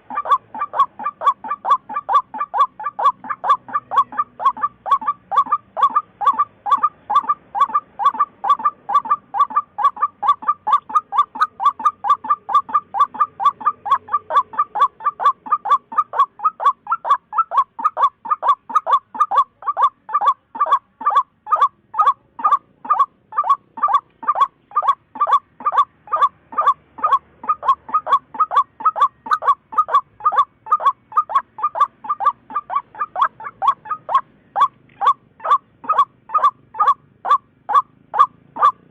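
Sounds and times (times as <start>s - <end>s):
bird calling repeated kook notes: 0.0s - 38.9s.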